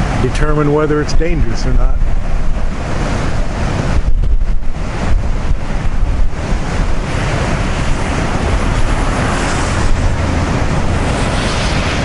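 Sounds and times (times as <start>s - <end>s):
gusting wind buffeting microphone: 0.0s - 12.0s
surf crashing over rocks: 0.0s - 12.0s.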